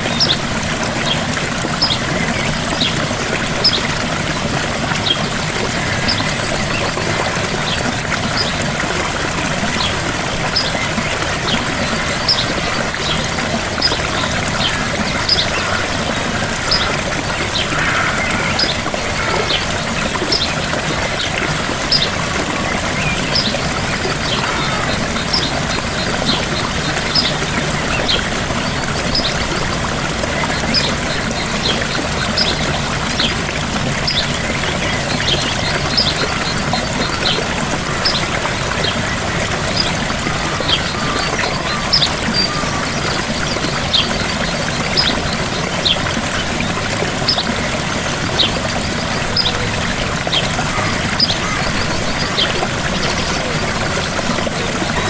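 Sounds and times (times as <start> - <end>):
gentle waterfall pouring: 0.0 - 55.0.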